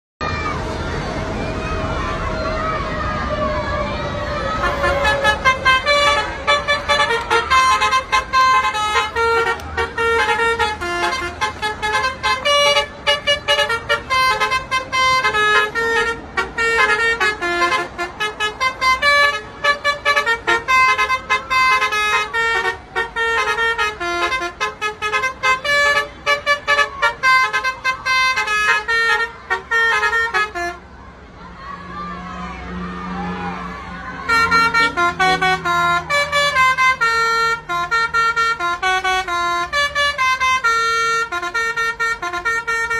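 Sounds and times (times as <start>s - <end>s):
musical air horn toots: 4.5s - 30.8s, 34.2s - 42.9s.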